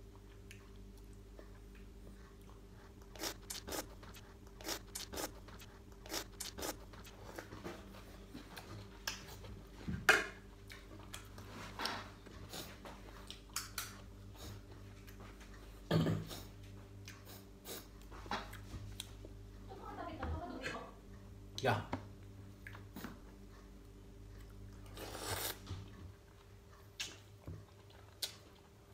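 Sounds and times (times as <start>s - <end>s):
crunching and chewing food: 0.0s - 19.4s, 22.2s - 28.9s.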